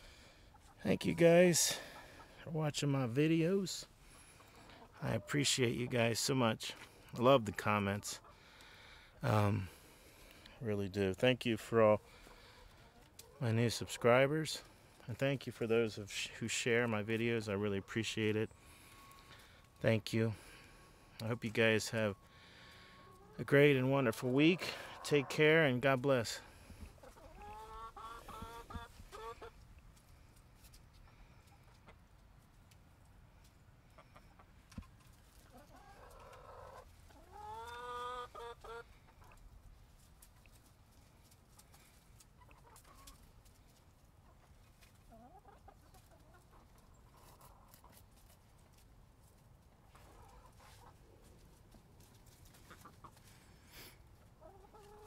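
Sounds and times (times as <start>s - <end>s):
hens clucking: 0.0s - 10.4s, 11.6s - 29.8s, 30.7s - 32.3s, 33.5s - 55.0s.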